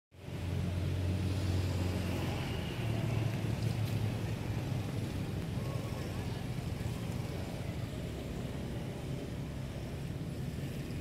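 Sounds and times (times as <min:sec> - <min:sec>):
vehicle engine humming: 0:00.2 - 0:11.0.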